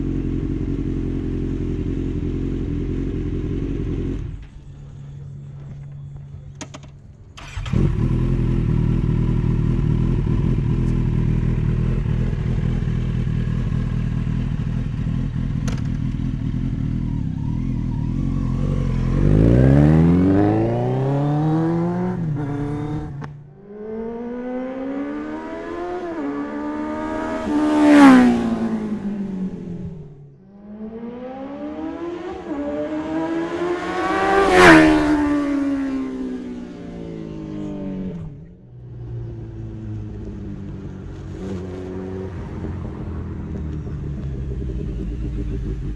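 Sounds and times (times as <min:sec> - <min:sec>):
motorcycle engine revving: 0:00.0 - 0:05.9, 0:07.4 - 0:45.9.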